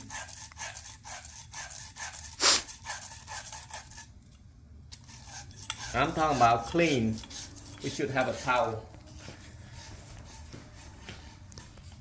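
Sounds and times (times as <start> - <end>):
abrasive scrubbing copper pipe: 0.0 - 4.2, 4.9 - 12.0.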